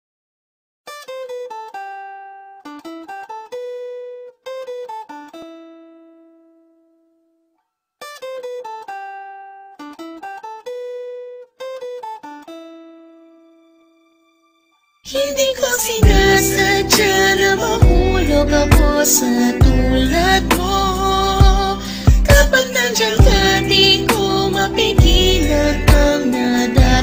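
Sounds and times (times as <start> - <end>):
plucked string melody: 0.9 - 7.2, 8.0 - 27.0.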